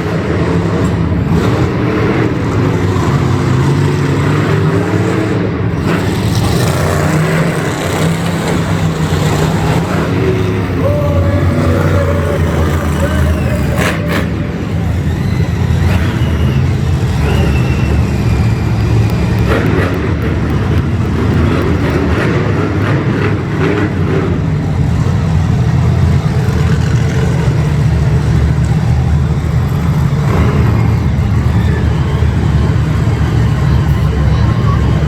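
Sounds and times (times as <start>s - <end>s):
monster truck engine running: 0.0s - 35.0s.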